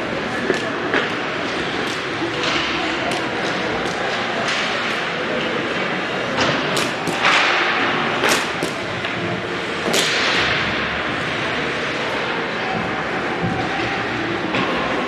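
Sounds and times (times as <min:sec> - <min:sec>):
hockey sticks clacking puck: 0:00.0 - 0:15.0
rink background noise: 0:00.0 - 0:15.0.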